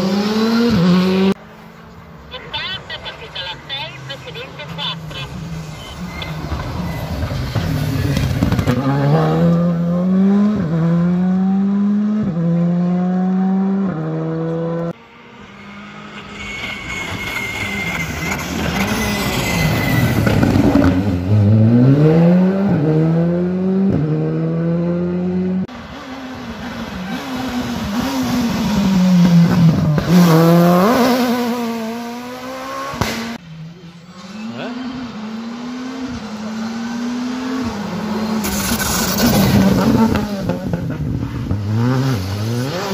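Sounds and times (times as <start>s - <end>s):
rally cars accelerating: 0.0s - 1.4s, 3.2s - 42.9s.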